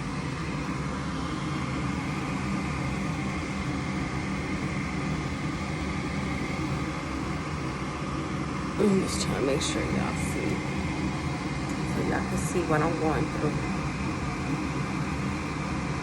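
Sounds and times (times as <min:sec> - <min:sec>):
furnace motor hum: 0:00.0 - 0:16.0.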